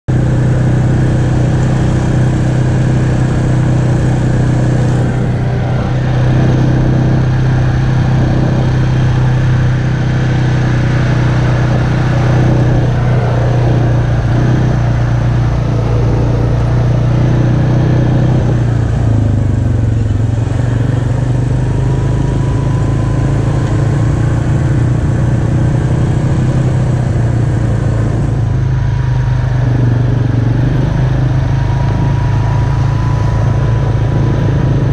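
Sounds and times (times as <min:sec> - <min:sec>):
quad bike engine running: 0:00.0 - 0:34.9.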